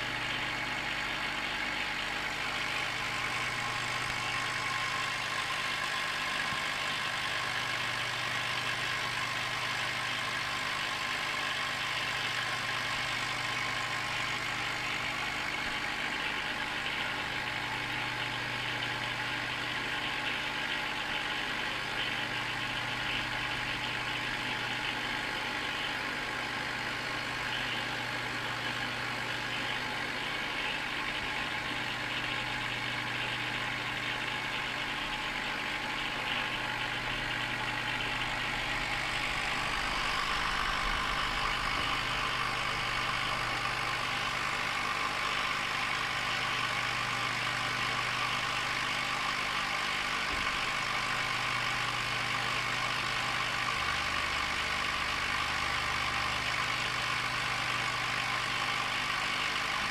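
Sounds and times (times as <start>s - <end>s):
aquarium equipment hum and hiss: 0.0s - 59.9s.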